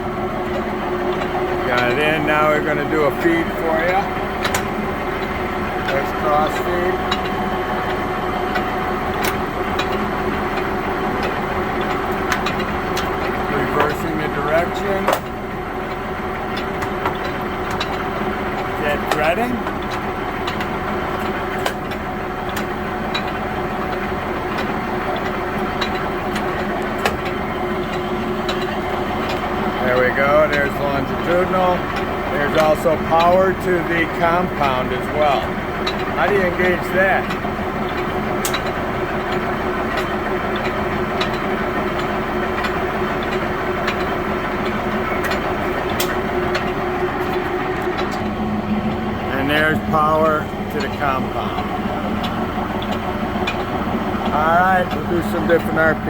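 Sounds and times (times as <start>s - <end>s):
lathe running with steady hum: 0.0s - 56.0s.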